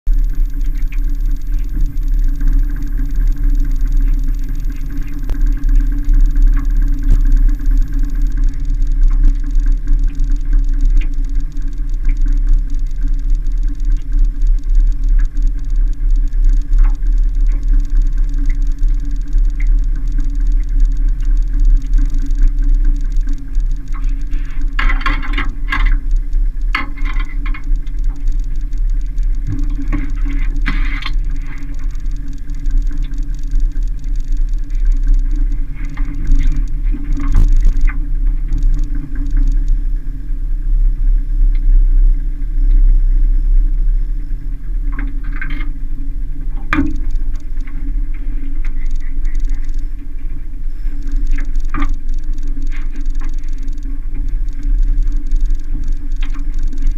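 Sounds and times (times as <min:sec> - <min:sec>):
outboard motor running: 0:00.1 - 0:56.9.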